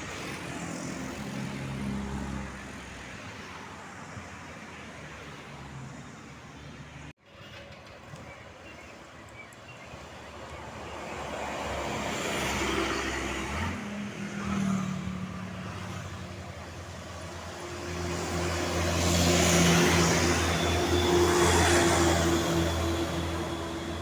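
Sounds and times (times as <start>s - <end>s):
buses passing: 0.0s - 24.0s.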